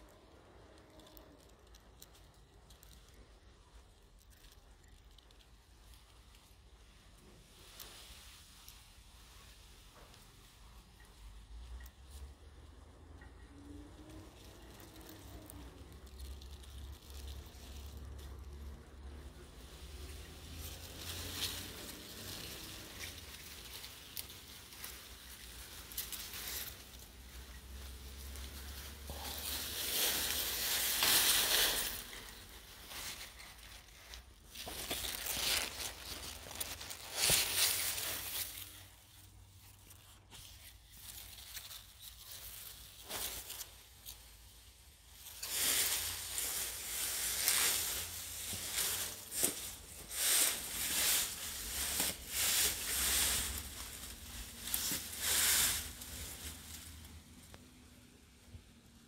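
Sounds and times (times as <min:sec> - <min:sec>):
grass and leaves rustling: 0:00.0 - 0:59.0.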